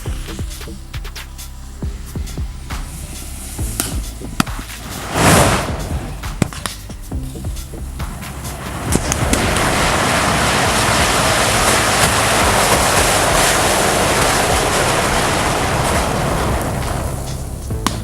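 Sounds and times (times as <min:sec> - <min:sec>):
burning matches roaring: 0:00.0 - 0:18.0
sharp crackles: 0:00.0 - 0:18.0.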